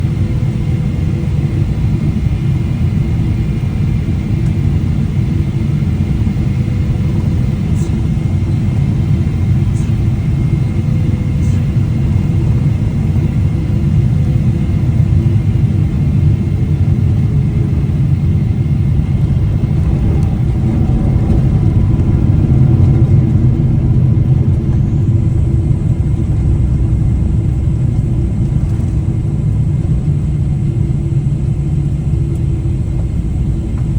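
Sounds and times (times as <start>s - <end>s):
airliner engines rumbling: 0.0s - 33.9s.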